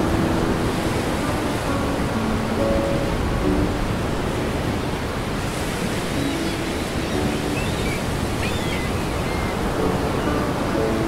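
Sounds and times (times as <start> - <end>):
heavy surf waves breaking: 0.0 - 11.0.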